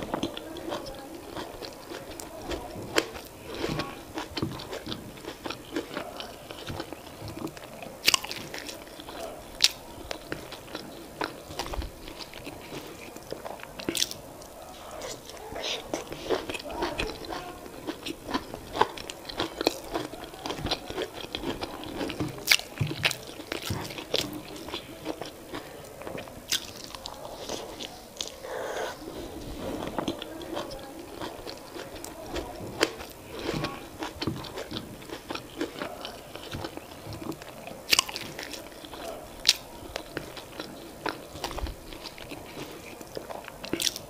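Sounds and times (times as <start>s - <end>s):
close chewing: 0.0s - 44.0s.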